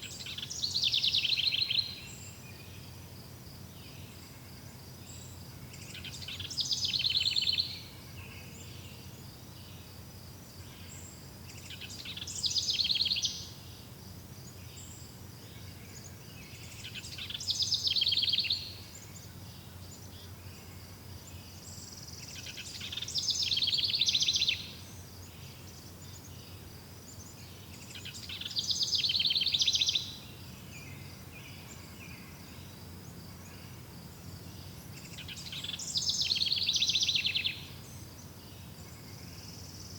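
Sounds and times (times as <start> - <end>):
songbird trilled song: 0.0 - 9.9, 10.6 - 39.9.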